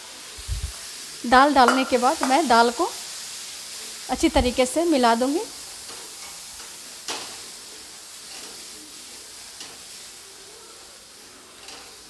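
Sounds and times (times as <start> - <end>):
lentils sizzling in hot oil: 0.0 - 12.0.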